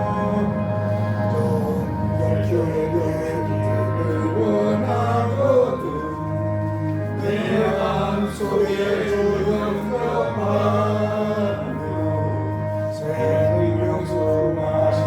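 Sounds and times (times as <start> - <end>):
congregation singing a hymn: 0.0 - 15.0
instrumental accompaniment: 0.0 - 15.0.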